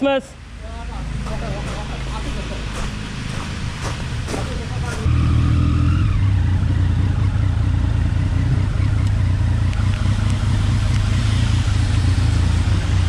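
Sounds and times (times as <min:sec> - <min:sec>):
motorcycle engine running: 0:01.0 - 0:13.0.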